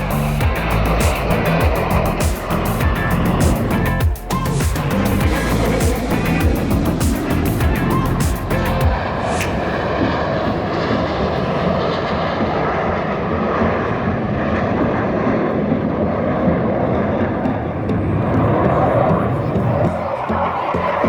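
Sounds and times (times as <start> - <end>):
airplane engine drone: 0.0 - 21.0.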